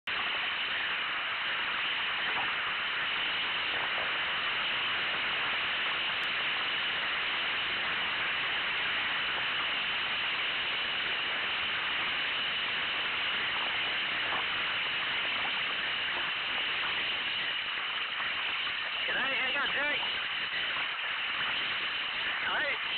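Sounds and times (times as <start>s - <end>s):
river rapids rushing: 0.2s - 22.9s.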